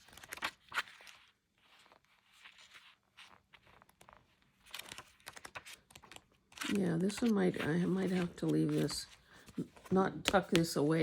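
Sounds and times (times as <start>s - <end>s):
pages being turned: 0.0s - 11.0s.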